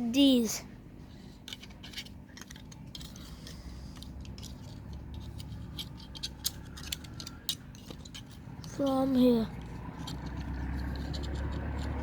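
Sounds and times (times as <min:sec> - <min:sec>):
plastic parts clicking and rattling: 0:01.3 - 0:12.0.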